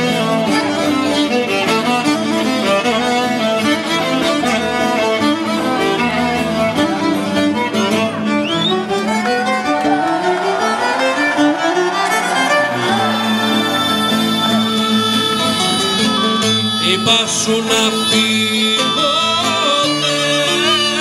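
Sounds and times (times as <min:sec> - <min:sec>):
folk dance music with violin: 0:00.0 - 0:21.0.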